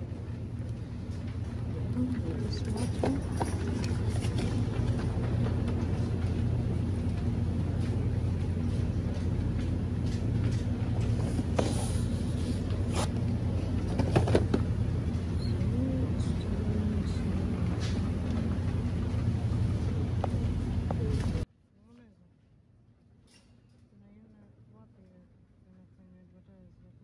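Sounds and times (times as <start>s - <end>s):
supermarket background hum: 0.0s - 27.0s.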